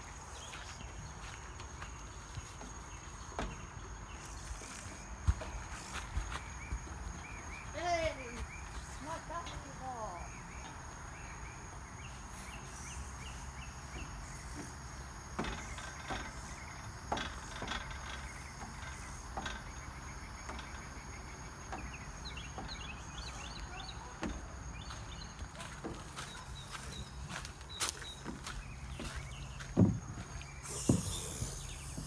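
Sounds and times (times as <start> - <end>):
child's footsteps on playground: 0.0 - 11.0, 13.8 - 32.0
high insect drone: 0.0 - 32.0
bird chirps: 0.3 - 32.0.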